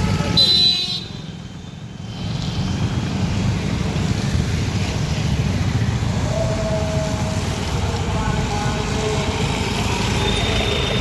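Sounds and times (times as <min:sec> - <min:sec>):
passing vehicles rumble: 0:00.0 - 0:11.0.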